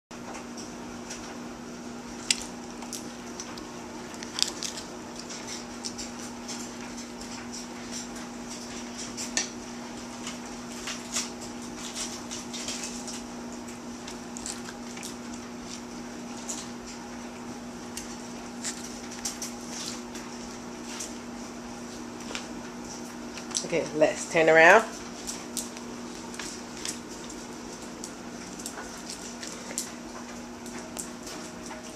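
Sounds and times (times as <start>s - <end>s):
steady low hum: 0.2s - 31.9s.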